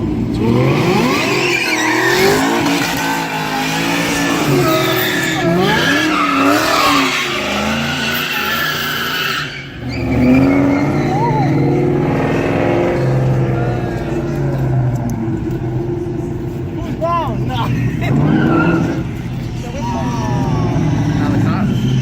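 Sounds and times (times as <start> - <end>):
car engines revving: 0.0 - 22.0
tyres squealing: 0.7 - 22.0.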